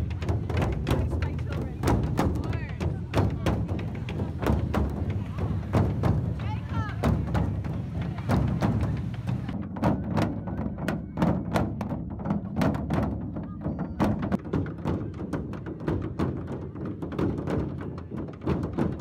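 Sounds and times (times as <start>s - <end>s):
many people beating a large drum: 0.0s - 19.0s.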